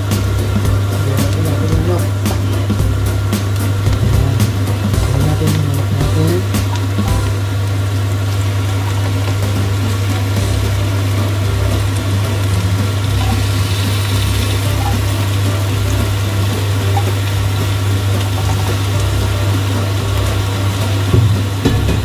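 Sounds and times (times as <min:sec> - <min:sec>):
low hum: 0:00.0 - 0:22.0
vegetables sizzling in a wok: 0:00.0 - 0:22.0.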